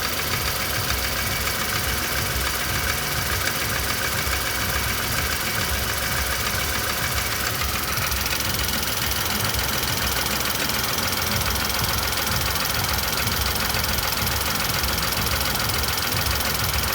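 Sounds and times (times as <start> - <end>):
car engine running: 0.0 - 16.9
engine knocking: 0.0 - 16.9.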